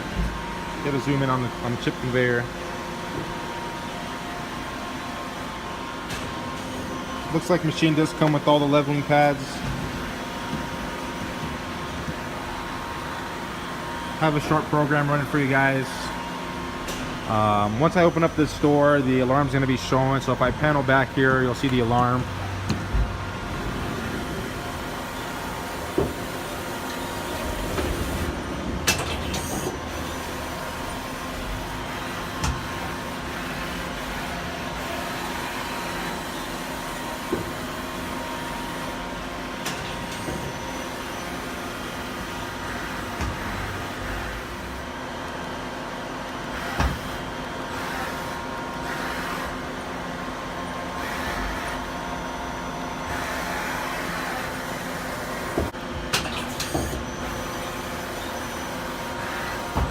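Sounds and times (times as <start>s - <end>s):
lathe mechanical hum: 0.0s - 59.9s.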